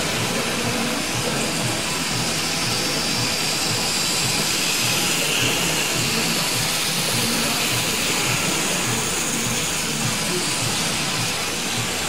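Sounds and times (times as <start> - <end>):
busy hall hiss: 0.0 - 12.0
model train whirring on track: 0.0 - 12.0.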